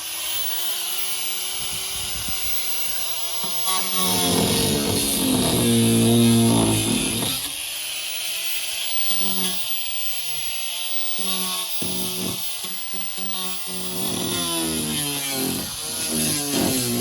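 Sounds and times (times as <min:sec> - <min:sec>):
power tool cutting: 0:00.0 - 0:17.0.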